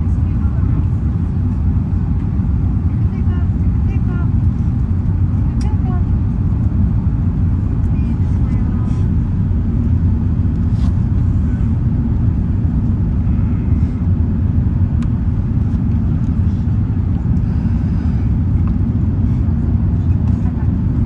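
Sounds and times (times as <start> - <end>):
airflow over fuselage: 0.0 - 21.0
airliner cabin engine rumble: 0.0 - 21.0.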